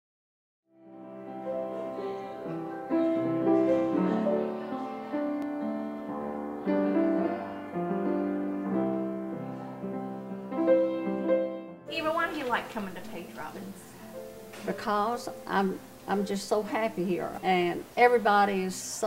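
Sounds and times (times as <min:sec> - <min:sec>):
slow gentle piano piece: 0:00.8 - 0:17.4.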